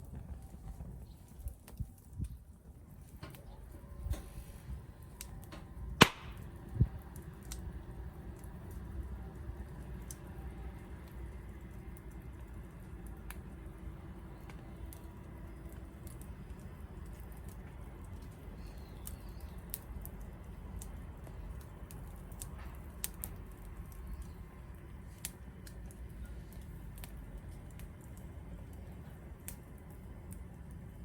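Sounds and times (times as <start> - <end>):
low rumble of flames: 0.0 - 31.0
wood fire crackling and popping: 0.0 - 31.0.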